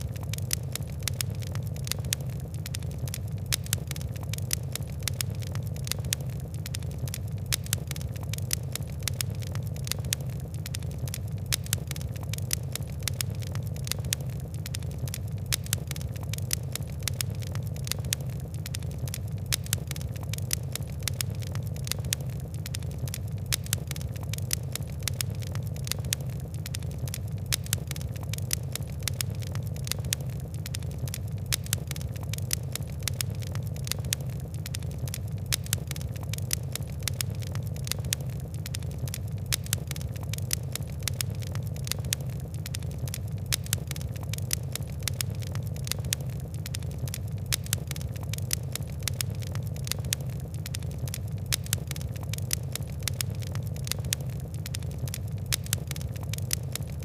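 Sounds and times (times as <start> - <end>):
fire crackling: 0.0 - 57.0
low rumble of flames: 0.0 - 57.0.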